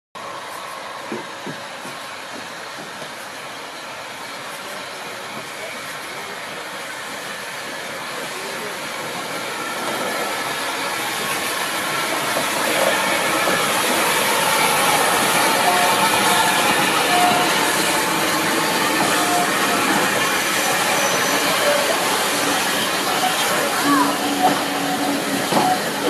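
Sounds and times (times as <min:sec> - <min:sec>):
steam hiss: 0:00.2 - 0:26.0
steam train running: 0:00.2 - 0:26.0.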